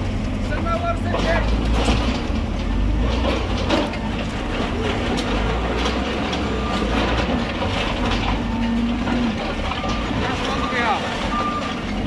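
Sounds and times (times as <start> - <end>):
debris cracking and knocking: 0.0 - 12.0
diesel engine under load: 0.0 - 12.0.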